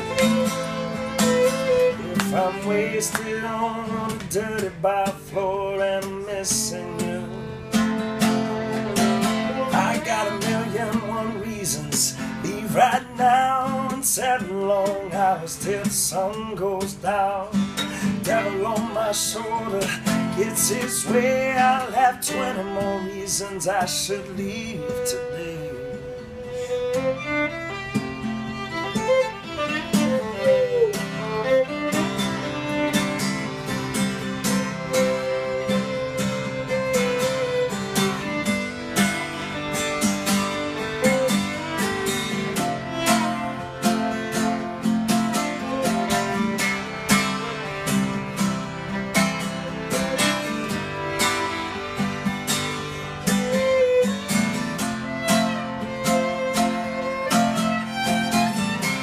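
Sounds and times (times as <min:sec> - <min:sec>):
fiddle melody: 0:00.0 - 0:59.0
strummed acoustic guitar: 0:00.0 - 0:59.0.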